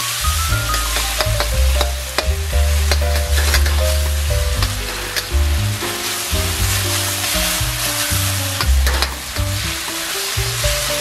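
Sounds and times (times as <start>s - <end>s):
meat sizzling in a wok: 0.0s - 11.0s
music with plucked bass line: 0.0s - 11.0s.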